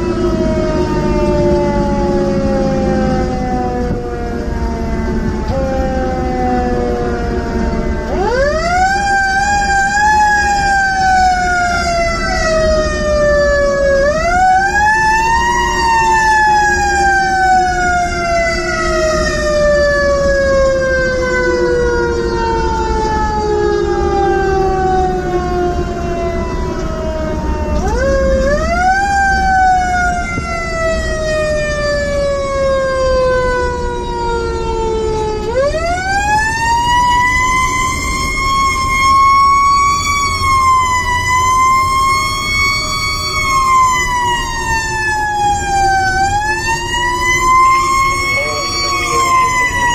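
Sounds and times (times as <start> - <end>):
fire engine rumbling: 0.0 - 49.9
mechanical siren wailing: 0.0 - 49.9.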